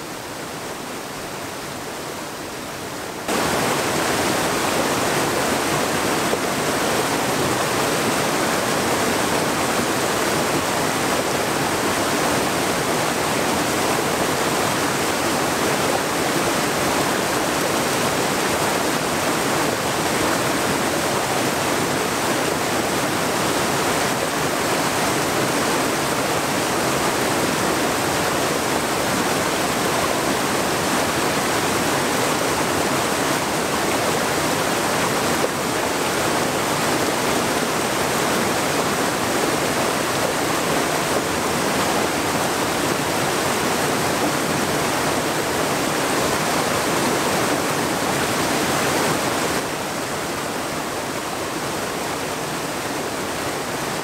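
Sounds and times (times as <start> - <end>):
stream rushing over cascades: 0.0 - 54.0.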